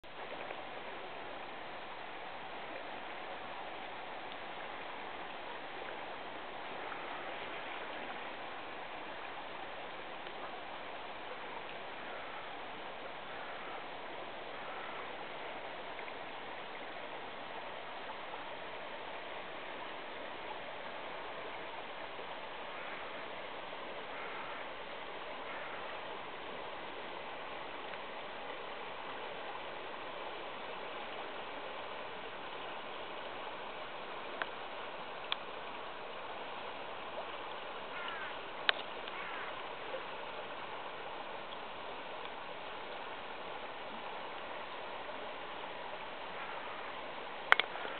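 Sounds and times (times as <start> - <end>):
river water rushing over gravel: 0.0 - 47.9.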